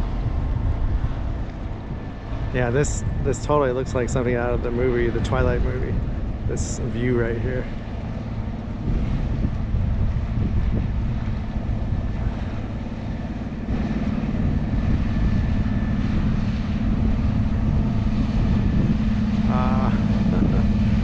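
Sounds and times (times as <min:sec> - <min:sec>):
boat engine droning: 0:00.0 - 0:21.0
wind rumble on microphone: 0:00.0 - 0:21.0.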